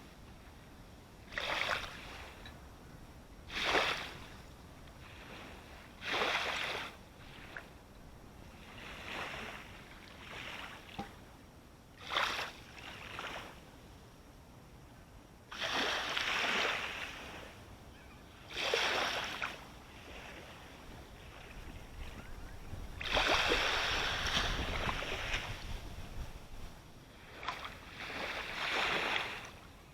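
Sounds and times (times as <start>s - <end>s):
small waves breaking on shore: 0.0s - 2.8s, 3.4s - 11.3s, 11.9s - 13.8s, 15.5s - 17.7s, 18.4s - 29.9s.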